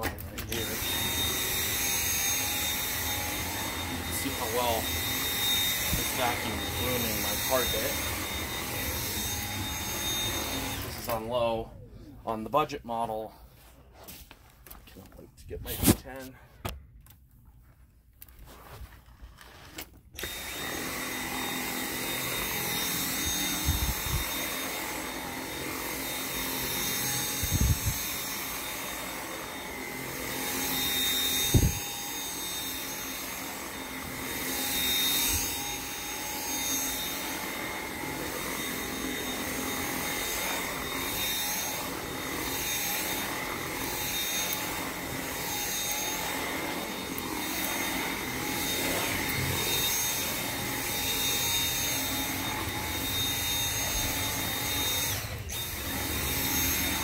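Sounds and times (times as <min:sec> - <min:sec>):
vacuum cleaner motor whine: 0:00.0 - 0:11.9, 0:20.2 - 0:57.0.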